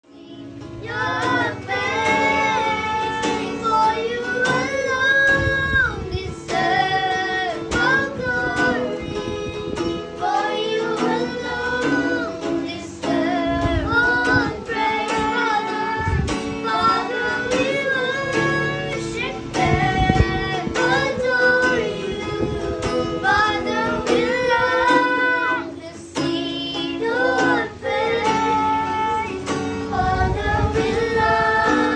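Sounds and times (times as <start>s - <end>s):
children singing: 0.0s - 31.9s
guitar accompaniment: 0.0s - 31.9s.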